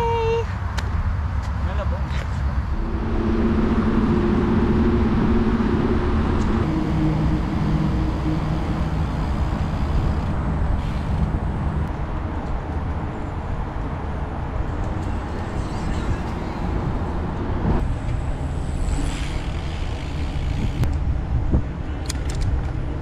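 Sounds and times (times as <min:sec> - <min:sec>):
bike tyres rumbling on asphalt: 0:02.1 - 0:23.0
wind buffeting microphone: 0:02.4 - 0:23.0
low hum: 0:02.5 - 0:21.9.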